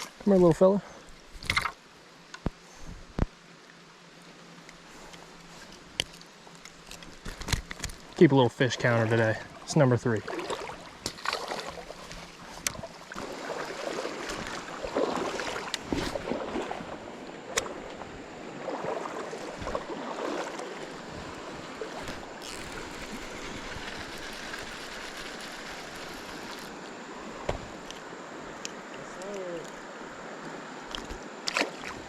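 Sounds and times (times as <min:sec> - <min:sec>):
flowing water rushing: 0:03.3 - 0:32.0
river water splashing: 0:03.3 - 0:32.0.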